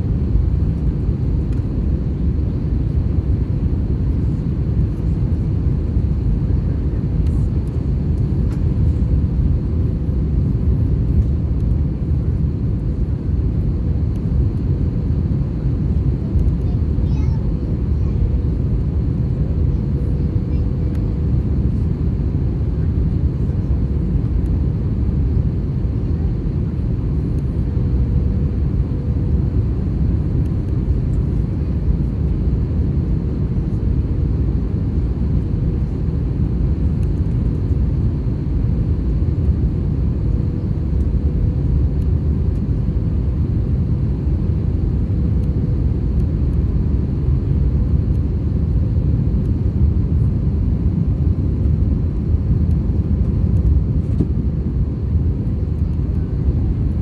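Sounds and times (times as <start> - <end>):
airliner engine rumble in cabin: 0.0 - 57.0.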